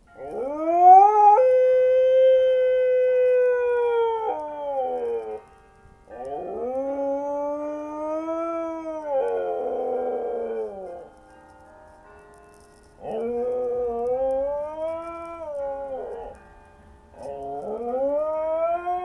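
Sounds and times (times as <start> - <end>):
dog howling: 0.2 - 5.4, 6.1 - 11.1, 13.0 - 16.4, 17.2 - 19.0.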